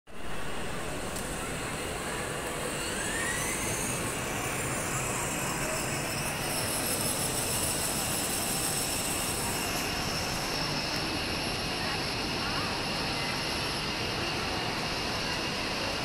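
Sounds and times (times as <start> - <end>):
faint distant voices: 0.1 - 16.0
shopping mall background roar: 0.1 - 16.0.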